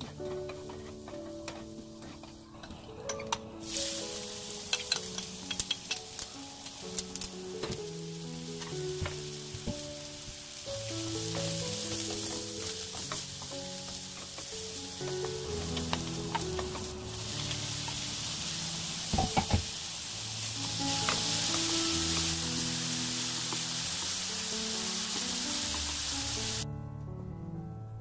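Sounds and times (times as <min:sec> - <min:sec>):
mushrooms sizzling in oil: 0:00.0 - 0:02.4, 0:03.6 - 0:26.6
soft background music: 0:00.0 - 0:28.0.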